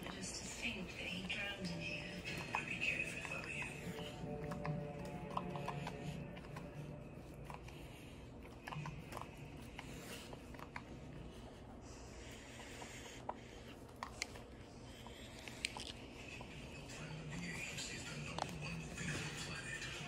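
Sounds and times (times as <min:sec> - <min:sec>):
dog licking fur: 0:00.0 - 0:20.0
low room hum: 0:00.0 - 0:20.0.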